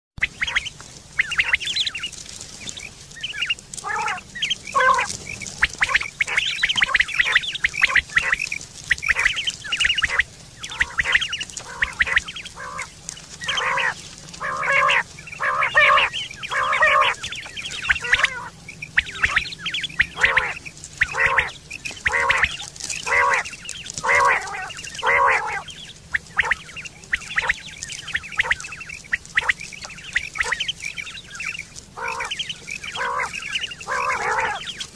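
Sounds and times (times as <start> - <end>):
quail calling: 0.2 - 34.9.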